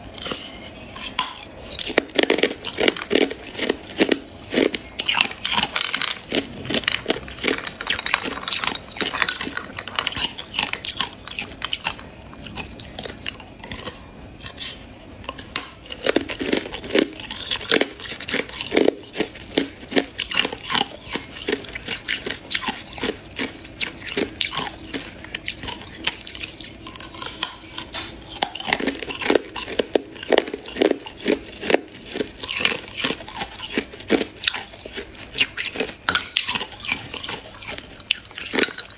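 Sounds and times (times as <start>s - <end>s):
ice crunching between teeth: 0.2s - 14.7s, 15.8s - 38.9s.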